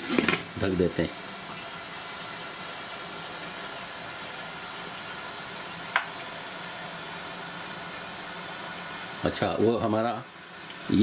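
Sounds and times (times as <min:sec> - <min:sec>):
pot hissing on stove: 0:00.0 - 0:11.0.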